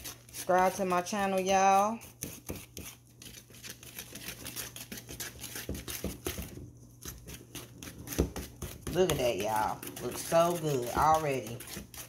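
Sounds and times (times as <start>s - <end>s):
whisk beating batter in bowl: 0.0s - 12.0s.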